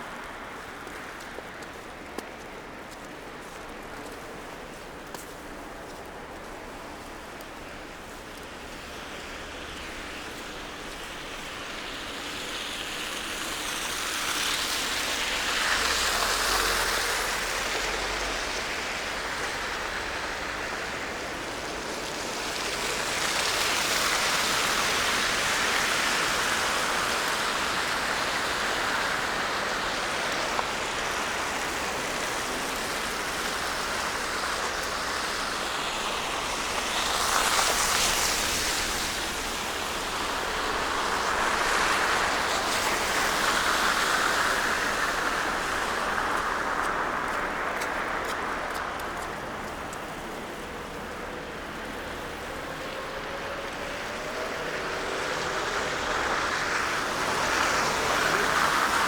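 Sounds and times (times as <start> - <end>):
car tyres hissing on slush: 0.0 - 59.0.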